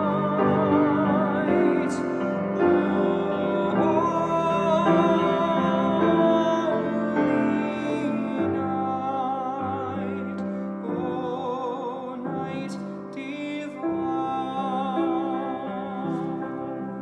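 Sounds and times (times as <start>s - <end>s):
classical solo singing: 0.0s - 17.0s
piano: 0.0s - 17.0s.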